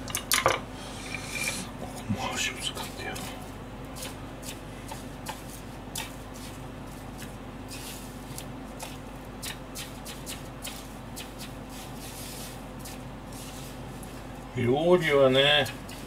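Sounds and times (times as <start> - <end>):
steady low hum: 0.0 - 16.0
breadcrumbs rustling: 1.9 - 16.0.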